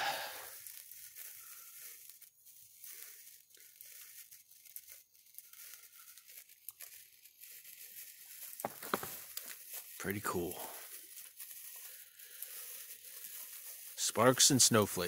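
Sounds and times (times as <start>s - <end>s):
sparkler fizzing and crackling: 0.0s - 15.0s.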